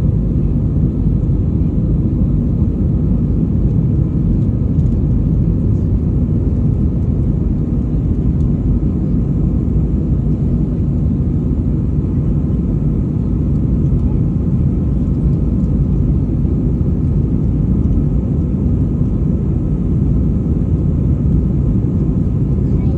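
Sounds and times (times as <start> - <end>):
jet engine rumble in cabin: 0.0 - 22.9.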